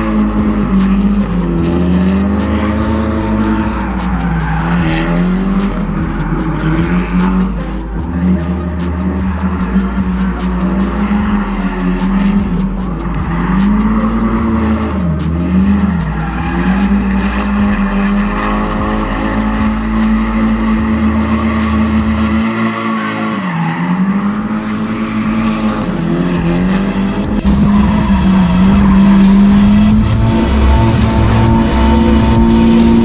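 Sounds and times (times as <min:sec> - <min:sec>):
car engine at high revs: 0:00.0 - 0:33.0
tyres squealing and skidding: 0:00.0 - 0:33.0.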